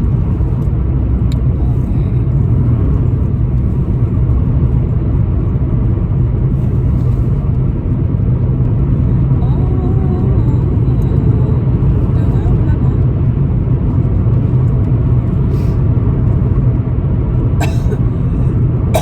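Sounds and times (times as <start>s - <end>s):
car driving interior rumble: 0.0s - 19.0s.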